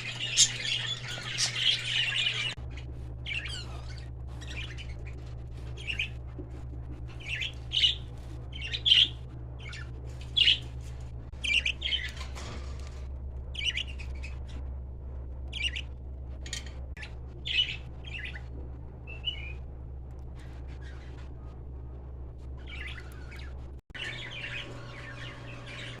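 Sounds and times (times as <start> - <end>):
birds chirping and squawking: 0.0 - 26.0
steady low hum: 0.0 - 26.0.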